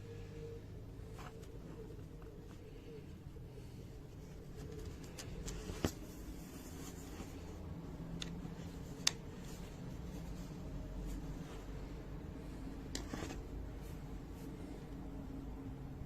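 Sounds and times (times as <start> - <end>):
low steady hum: 0.0 - 16.0
handling noises: 0.8 - 14.7.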